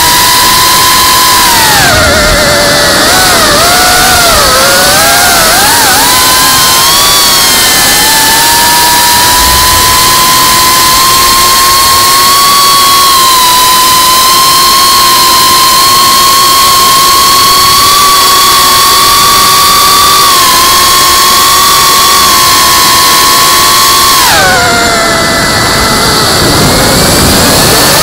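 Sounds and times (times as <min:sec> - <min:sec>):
wind hiss: 0:00.0 - 0:21.5, 0:22.1 - 0:28.0
drone motors whining: 0:00.0 - 0:28.0.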